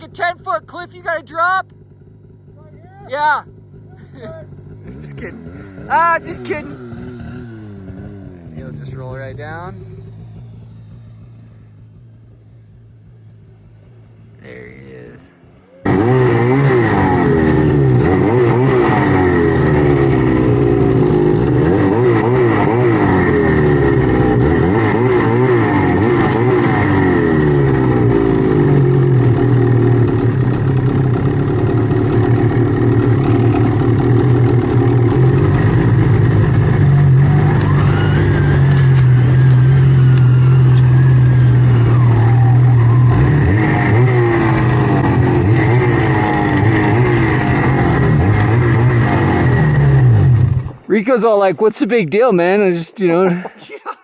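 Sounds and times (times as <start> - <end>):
snowmobile engine running: 0.0 - 53.8.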